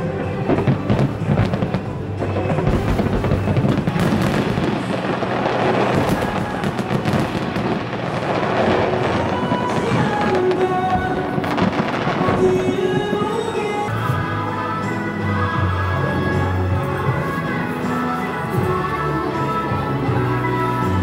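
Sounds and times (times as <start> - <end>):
fireworks crackling and banging: 0.0 - 21.0
music with a beat: 0.0 - 21.0.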